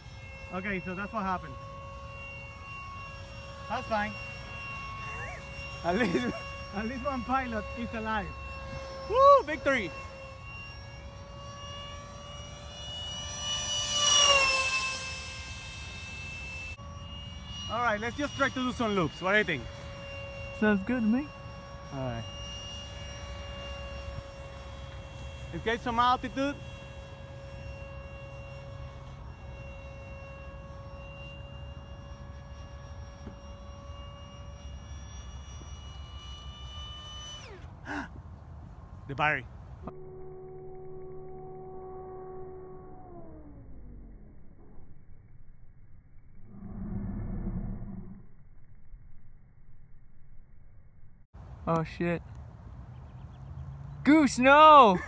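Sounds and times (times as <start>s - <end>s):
model jet fan whining: 0.0s - 55.0s.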